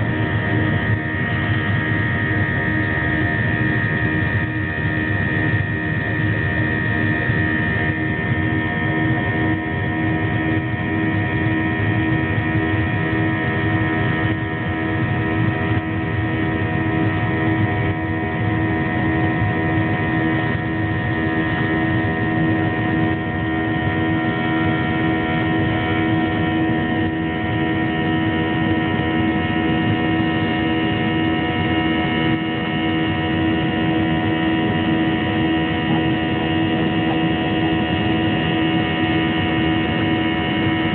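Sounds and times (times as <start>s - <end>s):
aircraft engine drone: 0.0s - 40.9s
steady humming tones: 0.0s - 40.9s.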